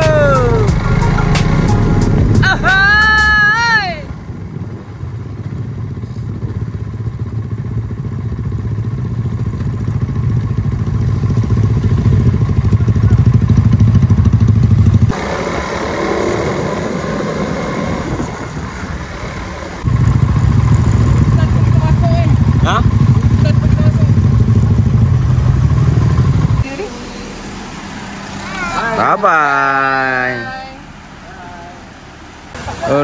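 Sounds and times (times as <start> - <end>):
motorcycle engine running: 0.0 - 30.8.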